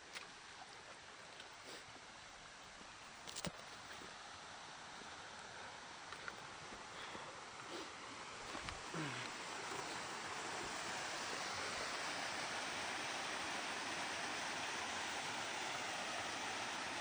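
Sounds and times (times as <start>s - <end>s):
rushing falling water: 0.8s - 17.0s.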